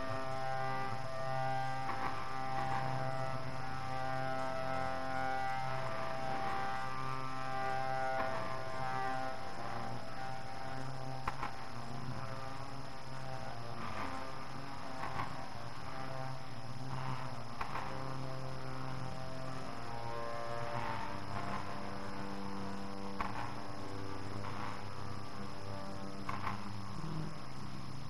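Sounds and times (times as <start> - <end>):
slow ambient music: 0.0 - 28.0
tape hiss: 0.0 - 28.0.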